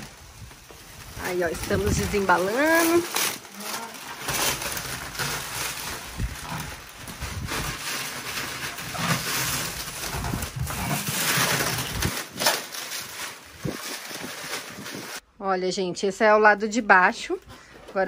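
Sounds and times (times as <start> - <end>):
plastic wrapping rustling and crinkling: 0.0 - 15.2, 16.7 - 18.0.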